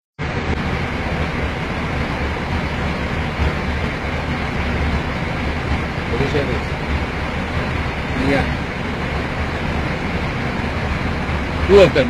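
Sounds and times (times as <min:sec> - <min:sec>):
airliner cabin noise: 0:00.2 - 0:12.0.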